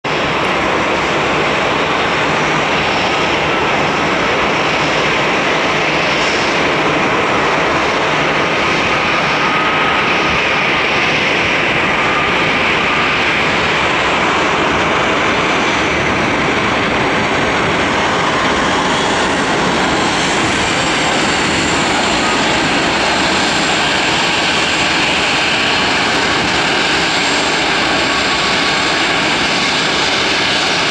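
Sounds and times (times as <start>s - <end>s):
jet engines roaring: 0.0s - 30.9s
faint engine whine: 0.1s - 30.9s.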